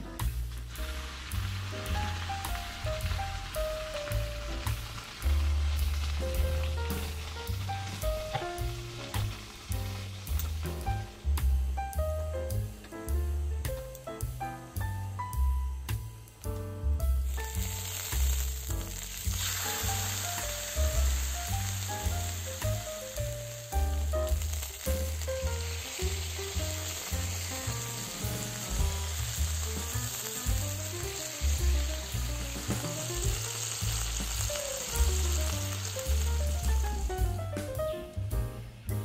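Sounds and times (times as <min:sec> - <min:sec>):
background music with bass line: 0:00.0 - 0:39.0
meat sizzling in oil: 0:00.1 - 0:37.8.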